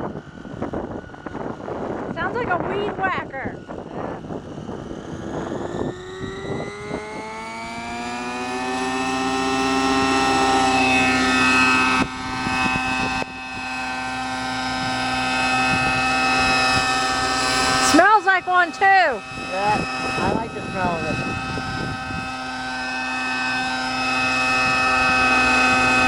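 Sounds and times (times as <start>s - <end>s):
model helicopter engine whine: 0.0s - 26.0s.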